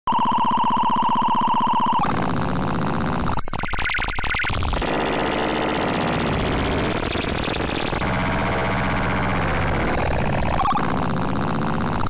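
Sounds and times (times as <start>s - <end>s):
synthetic buzzing tone: 0.1s - 12.0s.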